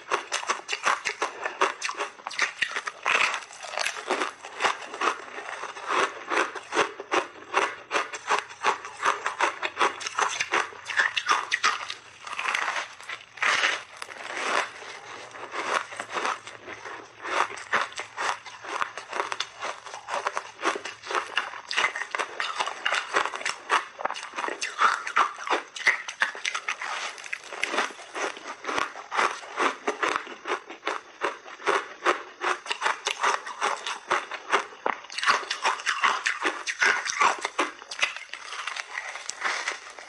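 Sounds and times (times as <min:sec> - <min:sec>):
crunching ice: 0:00.0 - 0:40.0.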